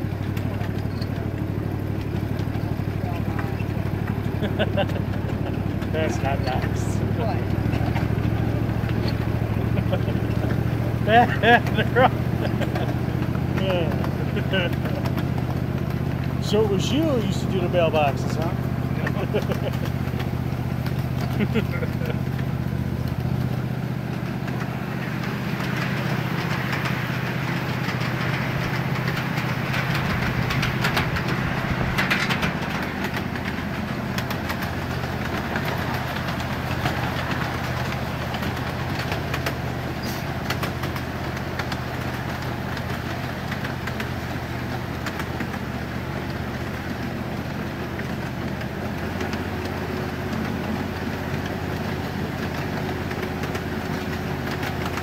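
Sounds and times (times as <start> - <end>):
low engine drone: 0.0 - 55.0
wheels clattering on rails: 0.0 - 55.0.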